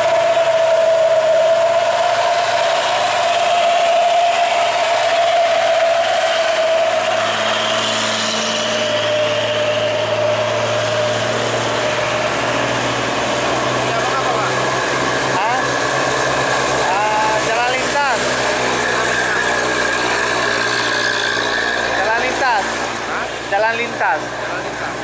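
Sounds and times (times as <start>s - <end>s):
diesel truck engines whining: 0.0s - 25.0s
tyres hissing on wet asphalt: 0.0s - 25.0s.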